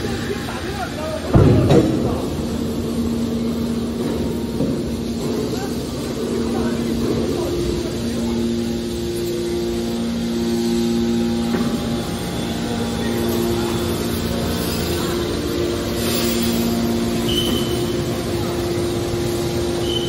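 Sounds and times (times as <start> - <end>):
factory machinery rumbling: 0.0 - 20.0
low two-tone hum: 0.0 - 20.0.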